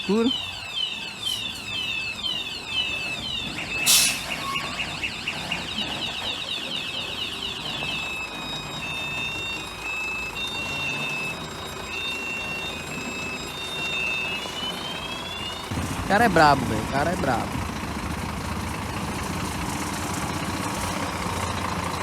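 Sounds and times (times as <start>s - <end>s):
truck engine running: 0.0s - 22.0s
truck reversing alarm: 0.0s - 22.0s.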